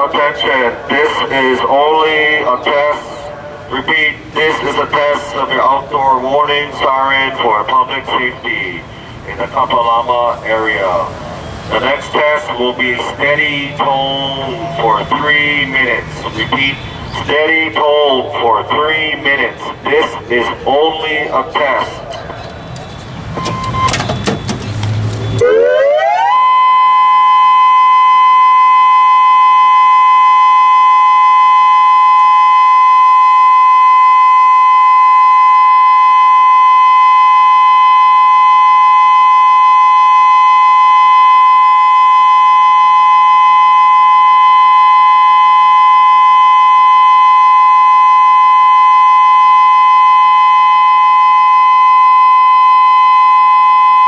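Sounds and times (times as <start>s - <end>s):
announcement over loudspeakers: 0.0s - 54.0s
warning siren steady tone: 0.0s - 54.0s.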